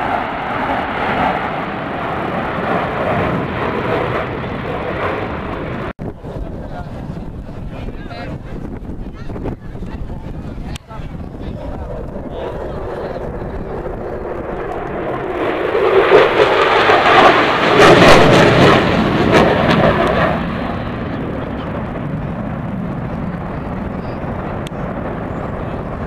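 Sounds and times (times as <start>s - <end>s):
aircraft passing overhead: 0.0s - 26.0s.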